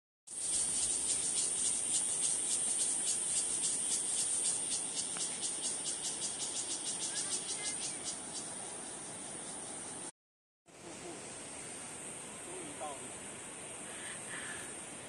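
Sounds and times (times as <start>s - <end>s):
insects buzzing: 0.3s - 10.1s, 10.7s - 15.0s
steady high hiss: 0.3s - 10.1s, 10.7s - 15.0s.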